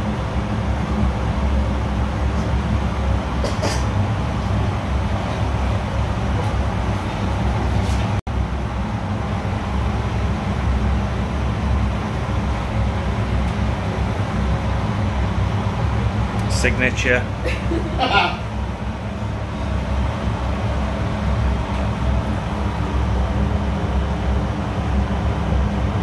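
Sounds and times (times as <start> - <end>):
kitchen machinery humming: 0.0 - 26.0.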